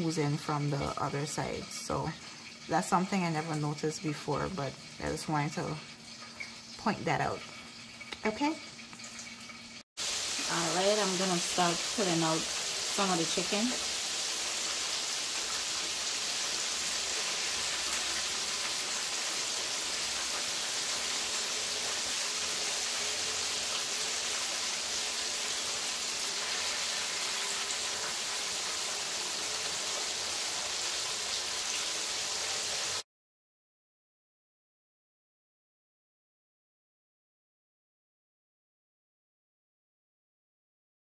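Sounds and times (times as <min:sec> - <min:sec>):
chicken wings sizzling in oil: 0:00.0 - 0:33.0.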